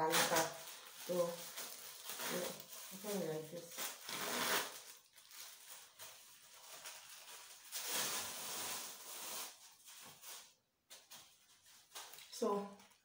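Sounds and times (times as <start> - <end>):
plastic wrapper rustling: 0.0 - 13.0.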